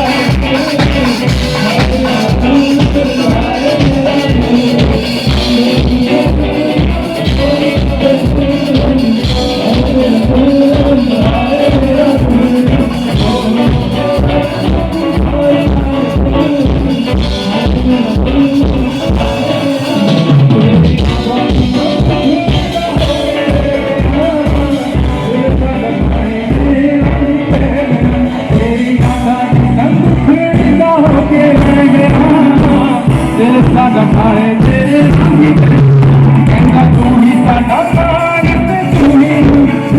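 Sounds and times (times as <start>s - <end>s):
band playing a song: 0.0s - 39.9s
bass: 0.0s - 39.9s
person singing: 0.0s - 39.9s
steady drum beat: 0.0s - 39.9s.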